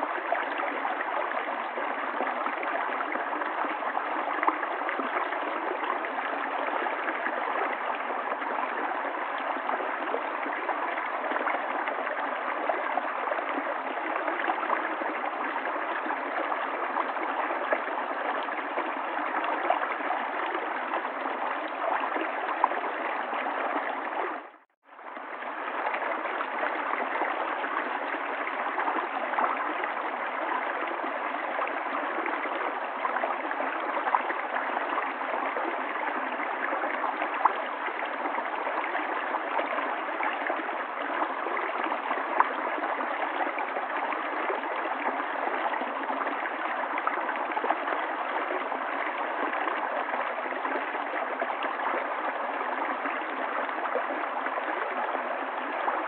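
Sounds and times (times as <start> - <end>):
river water flowing and gurgling: 0.0 - 56.0.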